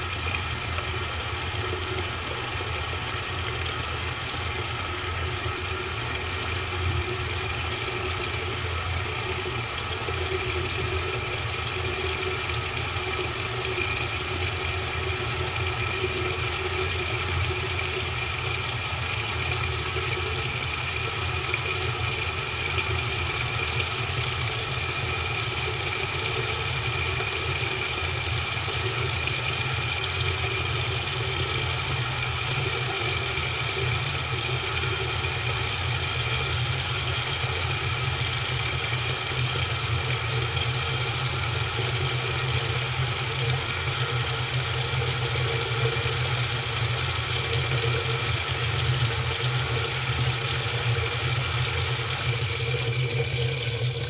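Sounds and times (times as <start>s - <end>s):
washing machine mechanical hum: 0.0s - 54.0s.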